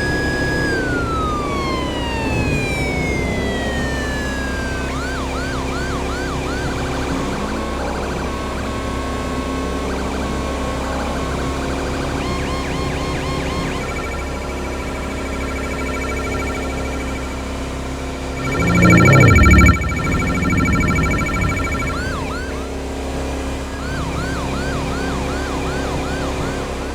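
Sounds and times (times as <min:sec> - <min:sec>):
police siren: 0:00.0 - 0:26.9.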